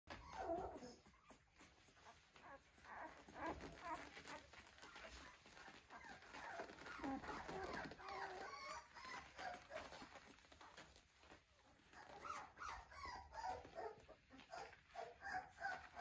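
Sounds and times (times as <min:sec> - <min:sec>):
puppies whimpering: 0:00.1 - 0:16.0.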